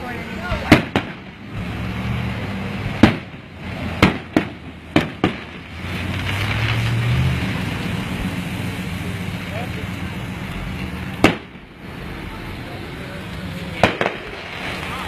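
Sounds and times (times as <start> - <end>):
fireworks bursting: 0.0 - 15.0
pickup truck driving past: 0.0 - 15.0
traffic hum: 0.0 - 15.0.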